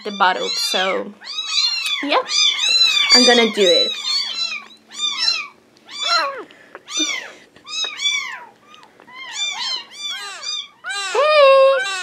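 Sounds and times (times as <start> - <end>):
kittens meowing: 0.0 - 12.0.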